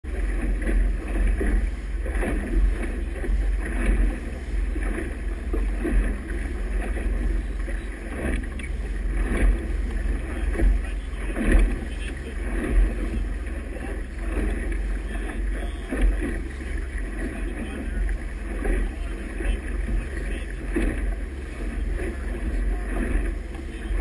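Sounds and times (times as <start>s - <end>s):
motorboat engine rumble: 0.0s - 24.0s
wake and waves splashing: 0.0s - 24.0s.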